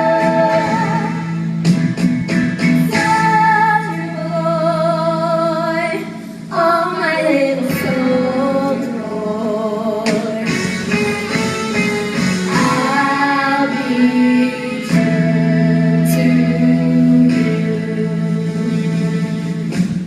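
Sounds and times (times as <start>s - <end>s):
singers holding long notes: 0.0s - 1.6s, 2.9s - 19.8s.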